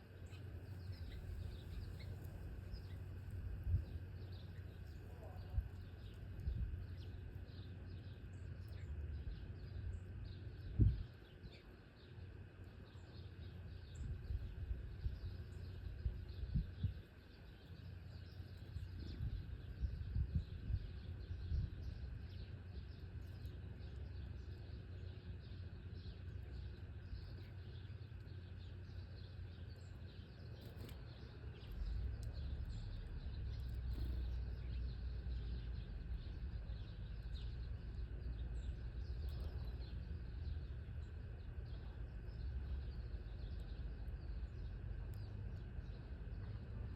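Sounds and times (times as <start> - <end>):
low outdoor rumble: 0.0 - 46.9
small birds chirping: 0.0 - 46.9.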